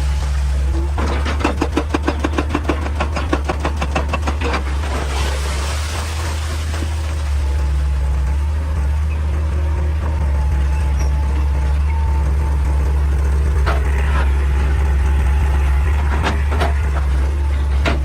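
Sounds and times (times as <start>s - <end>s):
excavator diesel engine droning: 0.0s - 18.0s.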